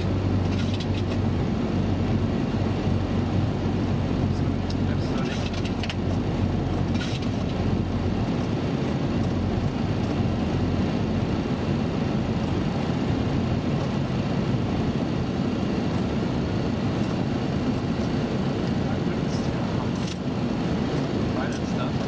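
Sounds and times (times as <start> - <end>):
airflow and engine rumble: 0.0 - 22.0.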